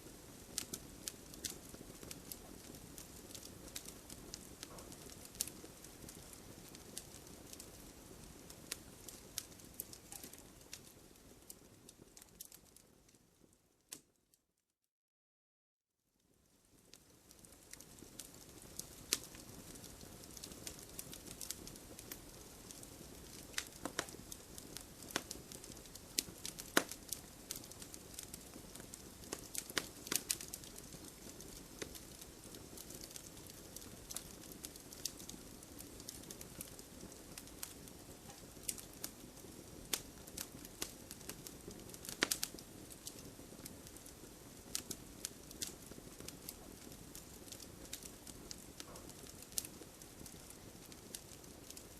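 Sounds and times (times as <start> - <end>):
fire crackling and popping: 0.0 - 14.2, 16.2 - 51.9.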